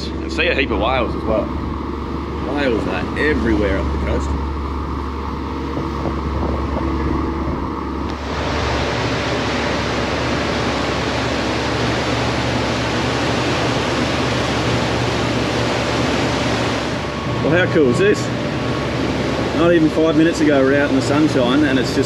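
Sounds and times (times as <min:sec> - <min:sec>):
boat engine humming: 0:00.0 - 0:22.0
rushing wind: 0:00.0 - 0:22.0
water rushing: 0:00.0 - 0:22.0.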